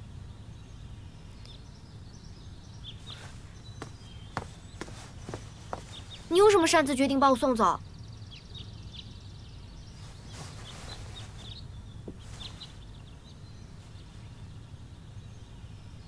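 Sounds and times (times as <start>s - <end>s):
low steady room hum: 0.0s - 16.0s
small birds chirping: 0.0s - 16.0s.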